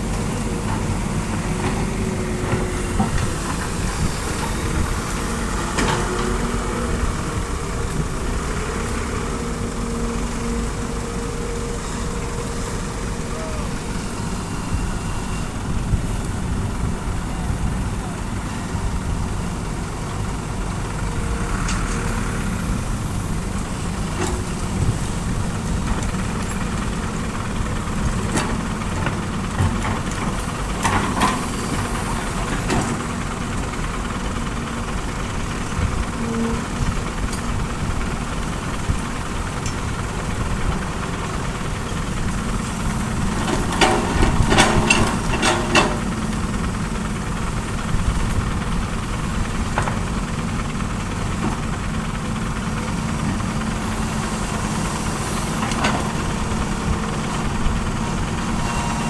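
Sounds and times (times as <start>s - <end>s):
heavy diesel engines rumbling: 0.0s - 59.0s.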